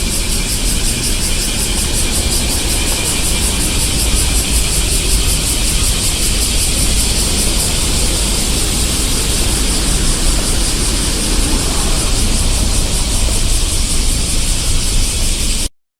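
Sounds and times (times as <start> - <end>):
traffic din: 0.0 - 15.7.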